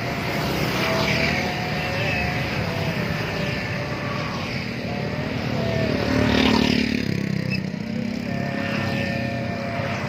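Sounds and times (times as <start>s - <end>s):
road traffic passing: 0.0s - 10.0s
vehicle passing loudly: 0.0s - 10.0s.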